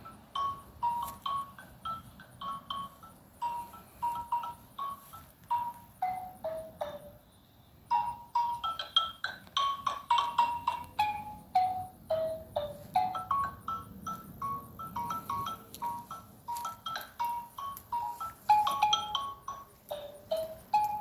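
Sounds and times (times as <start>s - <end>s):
xylophone notes and runs: 0.0s - 7.2s, 7.9s - 21.0s.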